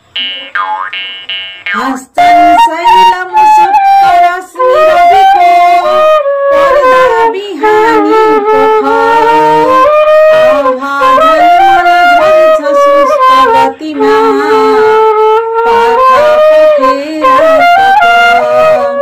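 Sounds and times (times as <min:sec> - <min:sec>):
woman chanting a sung melody: 0:01.8 - 0:15.2, 0:16.4 - 0:19.0.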